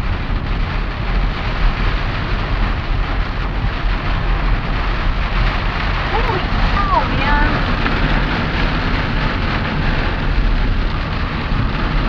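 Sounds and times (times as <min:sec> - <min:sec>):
rain and tyre spray: 0:00.0 - 0:12.0
road noise rumble: 0:00.0 - 0:12.0.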